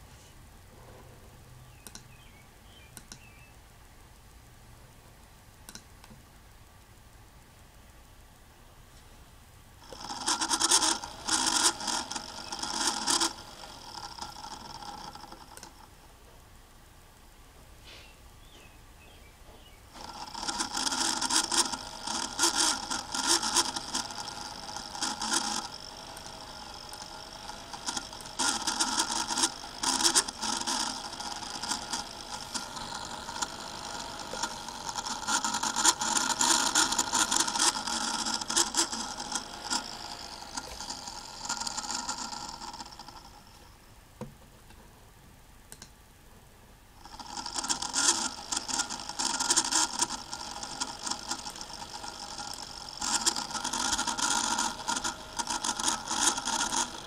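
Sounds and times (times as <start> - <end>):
laptop fan whirring and rattling: 0.0 - 57.0.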